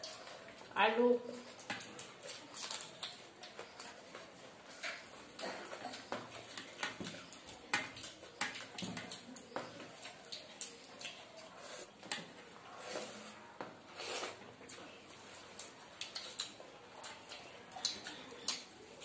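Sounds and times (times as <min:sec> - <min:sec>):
wet chewing and lip smacks: 0:01.4 - 0:12.5, 0:14.3 - 0:19.0.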